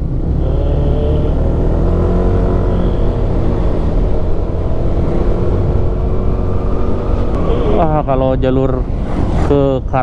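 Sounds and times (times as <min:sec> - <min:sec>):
motorcycle engine cruising: 0:00.0 - 0:08.0.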